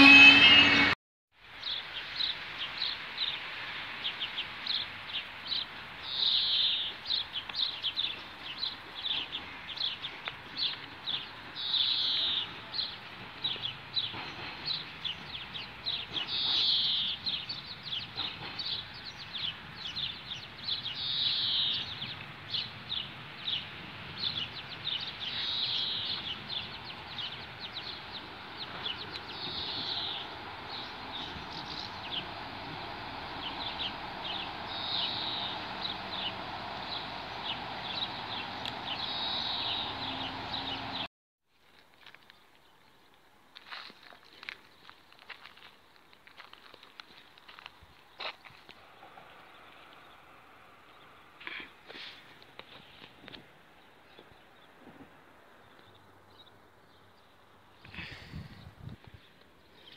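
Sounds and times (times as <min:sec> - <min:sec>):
songbirds chirping: 0:01.6 - 0:41.1, 0:42.1 - 0:59.9.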